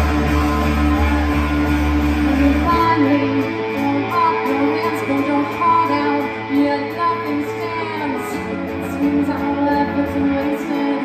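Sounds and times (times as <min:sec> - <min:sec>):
bass guitar: 0:00.0 - 0:11.0
drums: 0:00.0 - 0:11.0
electric guitar: 0:00.0 - 0:11.0.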